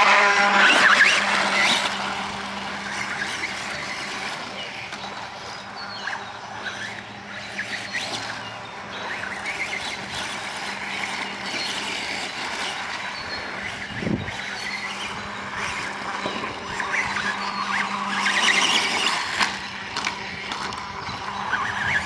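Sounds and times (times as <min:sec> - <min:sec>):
toy dirt bike motor revving: 0:00.0 - 0:22.0.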